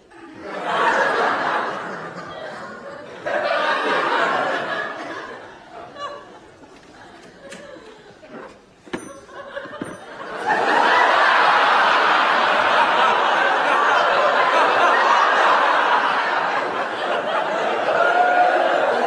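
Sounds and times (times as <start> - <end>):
audience laughing: 0.0 - 19.0.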